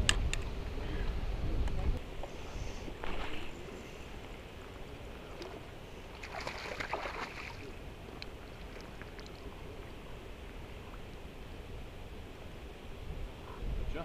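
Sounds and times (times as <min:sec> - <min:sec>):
wind rumble on microphone: 0:00.0 - 0:05.8, 0:07.7 - 0:14.0.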